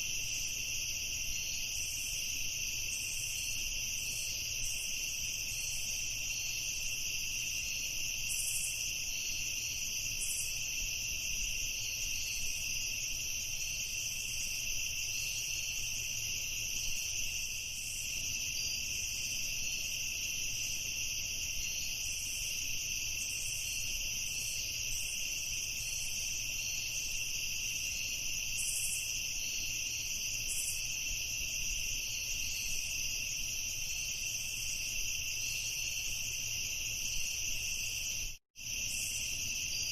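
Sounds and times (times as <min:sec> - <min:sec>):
crickets trilling: 0:00.0 - 0:39.9
high insect chirps: 0:00.0 - 0:39.9.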